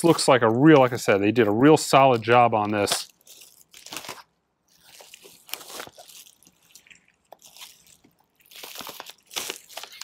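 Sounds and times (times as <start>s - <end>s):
plastic shrink-wrap crinkling: 0.0s - 10.0s.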